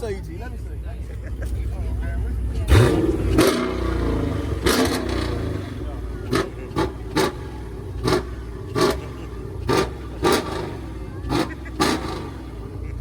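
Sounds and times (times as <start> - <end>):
car engine idling: 0.0 - 13.0
engine throttle blips: 0.0 - 13.0.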